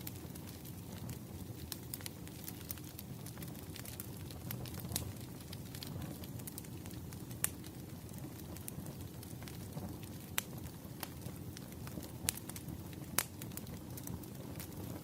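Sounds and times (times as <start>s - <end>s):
fire popping and snapping: 0.0s - 15.0s
rumble of flames: 0.0s - 15.0s.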